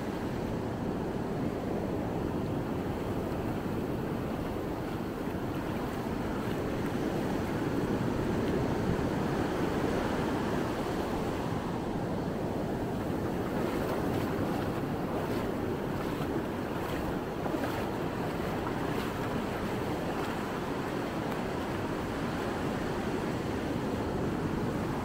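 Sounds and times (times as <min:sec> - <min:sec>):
surf breaking ashore: 0:00.0 - 0:25.0
wind buffeting microphone: 0:00.6 - 0:25.0.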